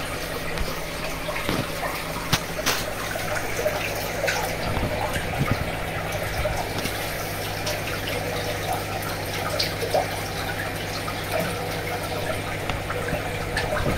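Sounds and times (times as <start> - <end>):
air bubbles trickling in water: 0.0 - 13.9.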